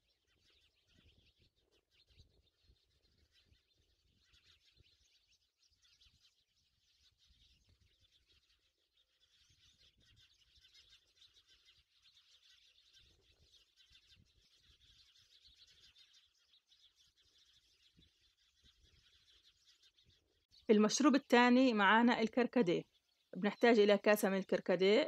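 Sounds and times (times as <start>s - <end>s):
faint high bird chirping: 0.0s - 25.0s.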